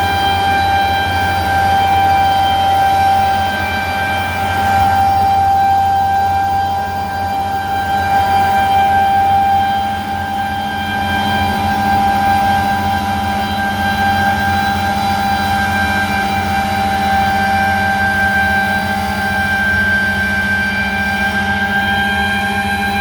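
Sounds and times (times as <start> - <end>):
farm machinery engine drone: 0.0 - 23.0
high-pitched whine: 0.0 - 23.0.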